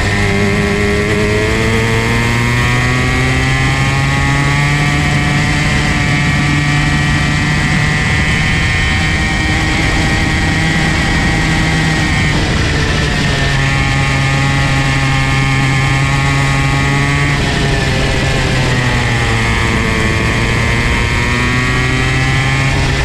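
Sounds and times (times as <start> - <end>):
two-stroke kart engine revving: 0.0 - 23.0.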